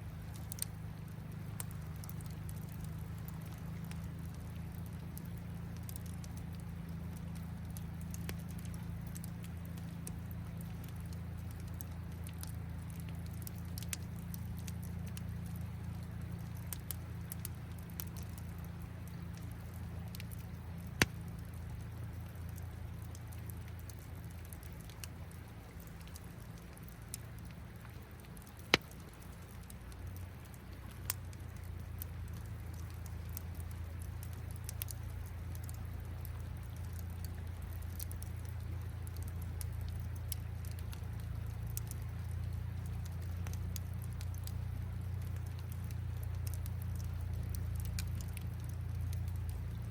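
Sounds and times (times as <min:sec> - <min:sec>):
campfire crackling: 0:00.0 - 0:49.9
river water running: 0:00.0 - 0:49.9
sharp fire pops: 0:00.2 - 0:49.9.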